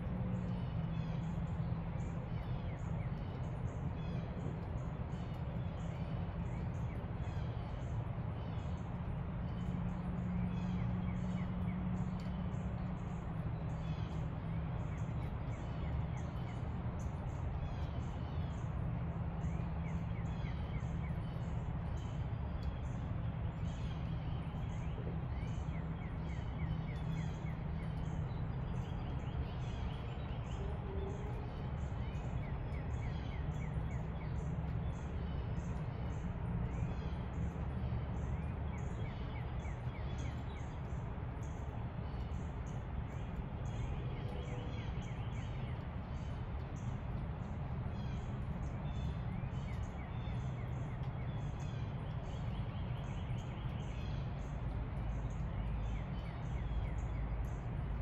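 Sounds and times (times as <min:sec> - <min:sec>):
steady low rumble: 0:00.0 - 0:58.0
birds chirping and trilling: 0:00.1 - 0:58.0.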